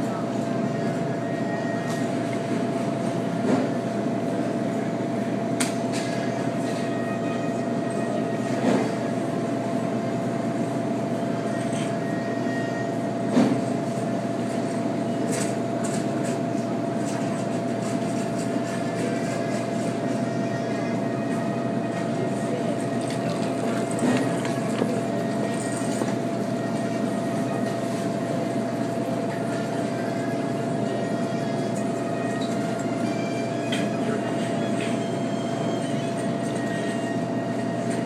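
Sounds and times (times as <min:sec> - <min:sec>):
machine hum with constant tone: 0:00.0 - 0:38.0.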